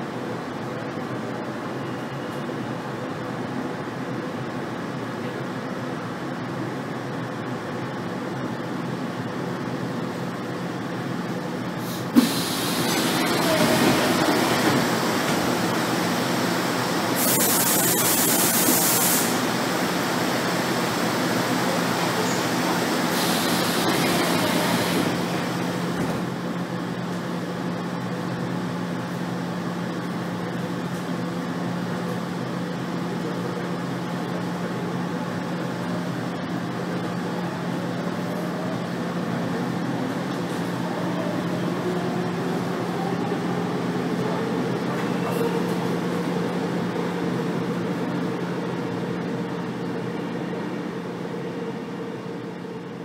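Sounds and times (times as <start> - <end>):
train running hum: 0.0 - 53.0.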